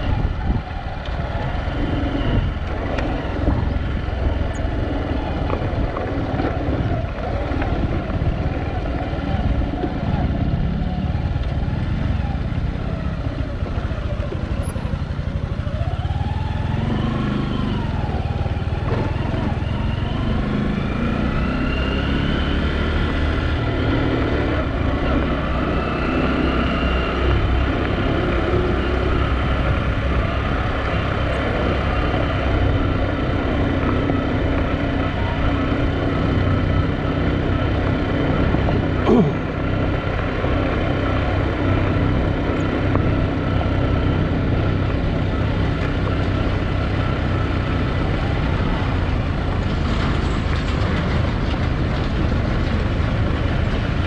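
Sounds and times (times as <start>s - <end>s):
road noise: 0.0s - 54.0s
vehicle engine drone: 0.0s - 54.0s.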